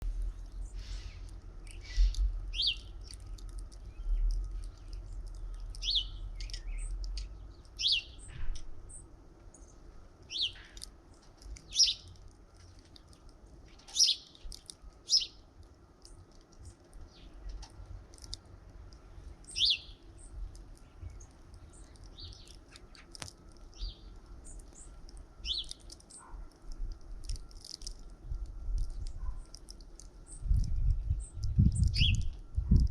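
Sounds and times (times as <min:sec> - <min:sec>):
faint low rumble: 0:00.0 - 0:32.9
small songbirds chirping: 0:00.0 - 0:32.9.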